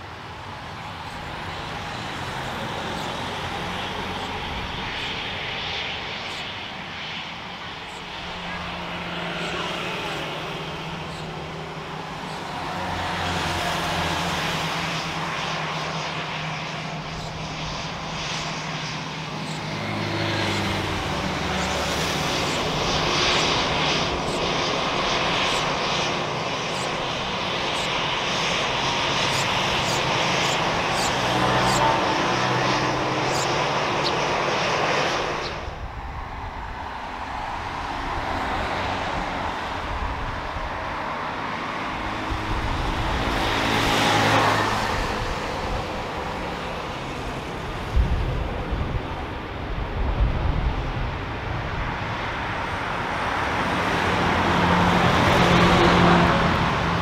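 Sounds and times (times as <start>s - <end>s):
jet engines running loud: 0.0s - 57.0s
quieter jet engine sound: 0.0s - 57.0s.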